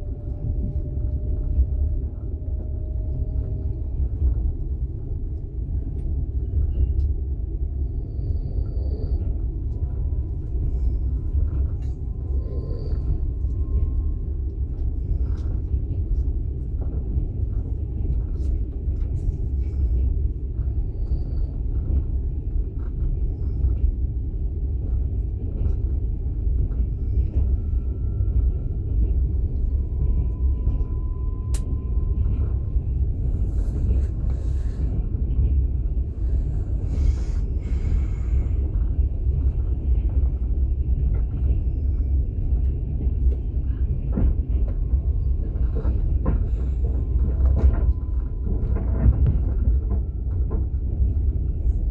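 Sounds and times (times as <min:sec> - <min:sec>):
train rumbling inside carriage: 0:00.0 - 0:51.9.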